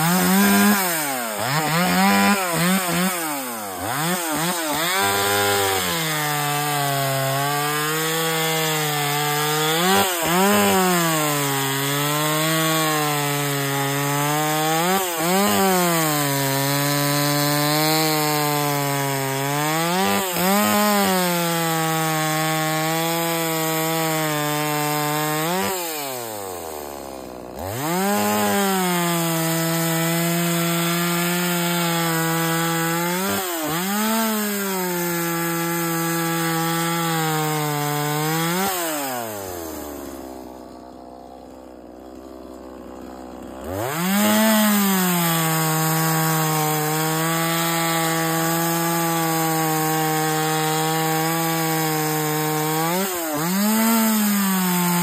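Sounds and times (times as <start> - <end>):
chainsaw cutting logs: 0.0 - 55.0.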